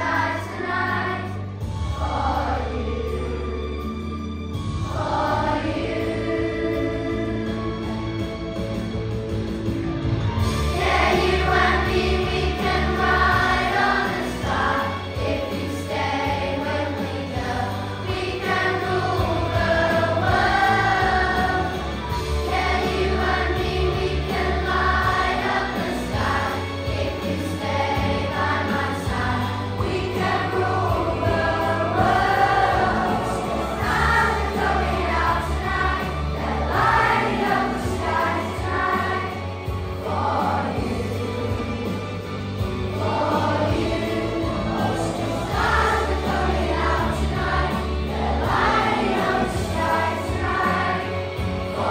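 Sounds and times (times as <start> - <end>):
children singing in unison: 0.0 - 3.6, 4.8 - 7.8, 10.6 - 51.9
instrumental backing with bass: 0.0 - 51.9.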